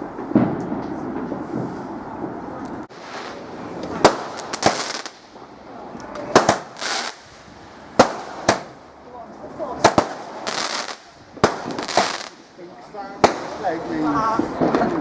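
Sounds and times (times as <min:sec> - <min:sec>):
fireworks bangs: 0:00.0 - 0:15.0
fireworks hissing: 0:00.0 - 0:15.0.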